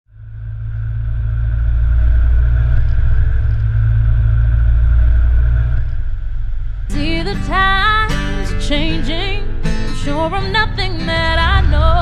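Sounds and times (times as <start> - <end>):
car engine running: 0.1 - 12.0.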